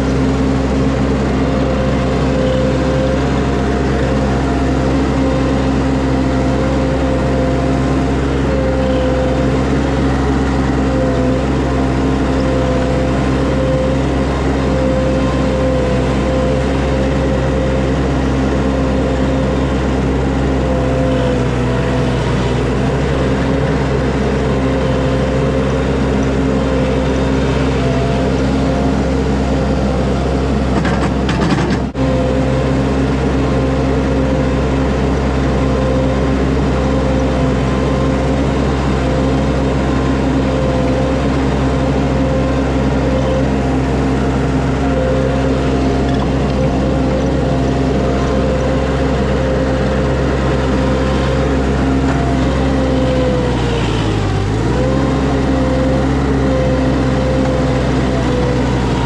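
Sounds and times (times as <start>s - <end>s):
diesel engine running: 0.0s - 59.0s
machine hum and whine: 0.0s - 59.0s.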